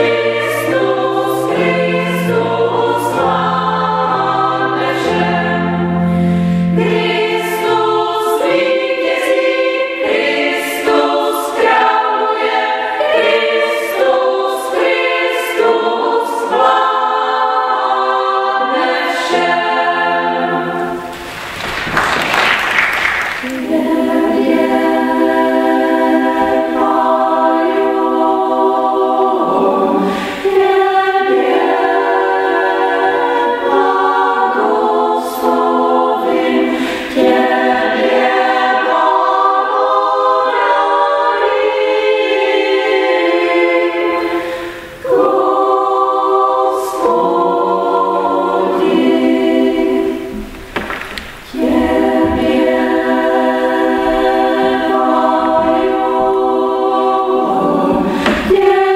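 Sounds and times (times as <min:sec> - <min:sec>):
women's choir singing: 0:00.0 - 0:58.9.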